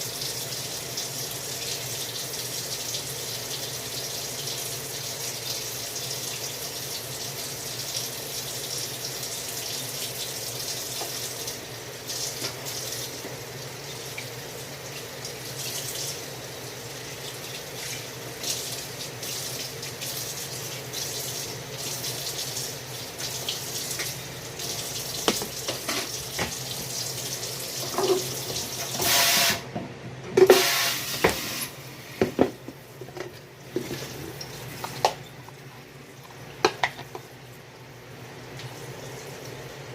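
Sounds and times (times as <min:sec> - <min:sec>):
tap water running into sink: 0:00.0 - 0:29.7, 0:30.4 - 0:37.3.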